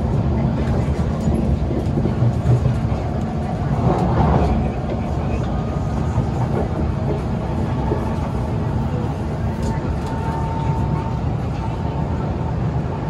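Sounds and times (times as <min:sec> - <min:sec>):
constant hum: 0:00.0 - 0:13.0
train wheels rumbling on track: 0:00.0 - 0:13.0.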